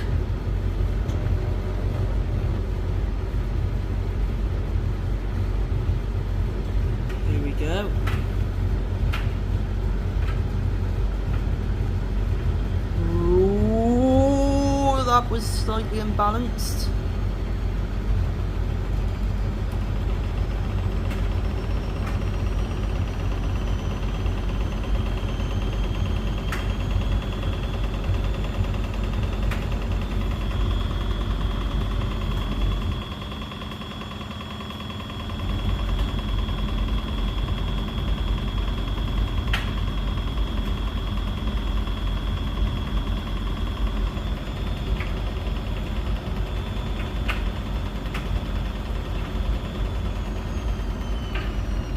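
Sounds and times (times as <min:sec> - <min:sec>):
motor whine: 0:00.0 - 0:51.9.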